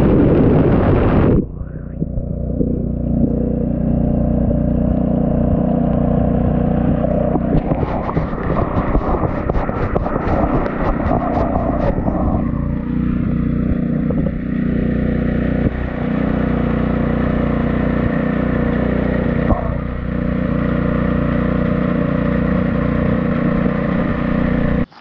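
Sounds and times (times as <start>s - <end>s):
small engine running steadily: 0.0s - 25.0s
pump spraying water: 2.0s - 25.0s.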